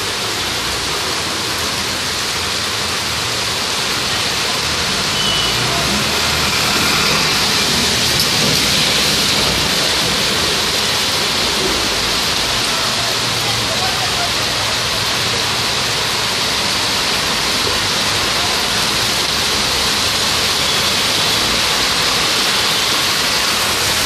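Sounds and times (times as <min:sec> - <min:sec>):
heavy rain on pavement: 0:00.0 - 0:24.0.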